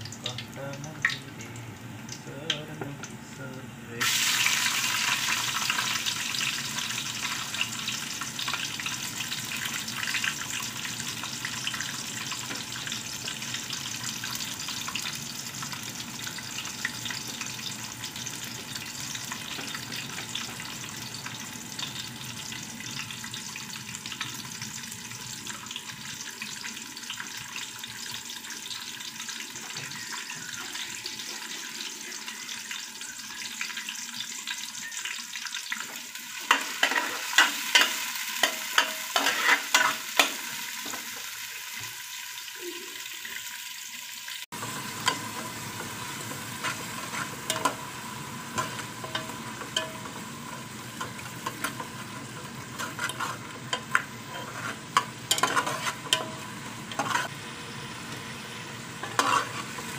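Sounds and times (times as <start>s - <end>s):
onions sizzling in hot oil: 0.0s - 59.9s.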